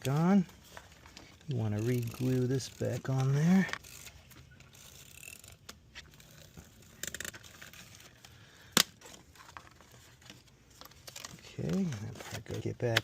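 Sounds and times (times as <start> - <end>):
plastic parts handled by hand: 0.0 - 13.0.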